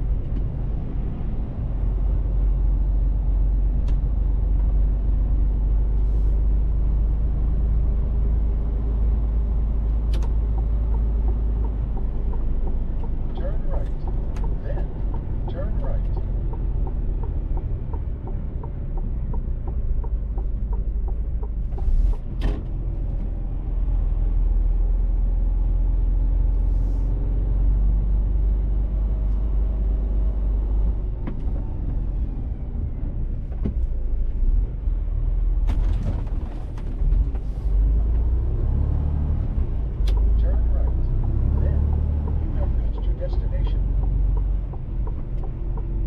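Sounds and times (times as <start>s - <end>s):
truck engine and road rumble: 0.0s - 46.0s.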